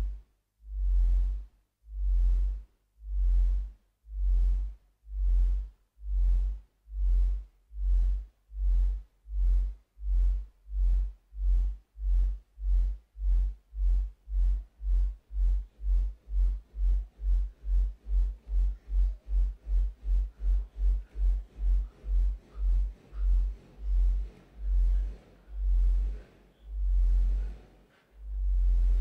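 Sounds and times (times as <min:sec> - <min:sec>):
electronic music bass pulses: 0:00.0 - 0:29.0.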